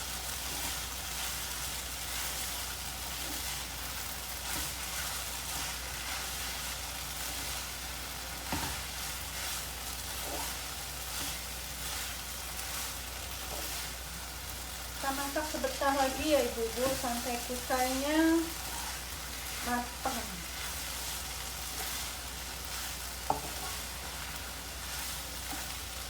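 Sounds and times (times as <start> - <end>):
noodles sizzling in a pan: 0.0 - 26.0.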